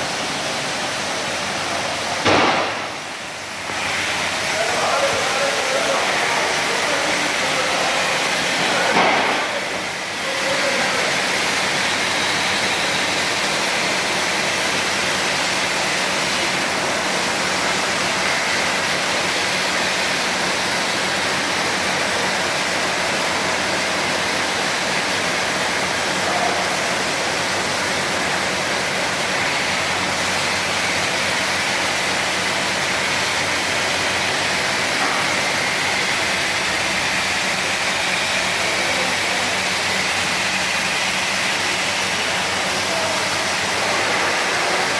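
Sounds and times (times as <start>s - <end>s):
carpet washing machine running: 0.0s - 44.9s.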